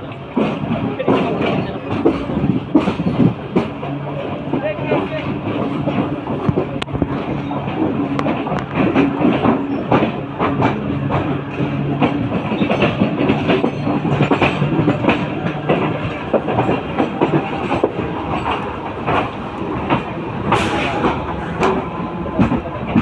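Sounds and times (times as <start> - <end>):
low train hum: 0.0 - 23.0
train wheels clattering over rail joints: 0.0 - 23.0.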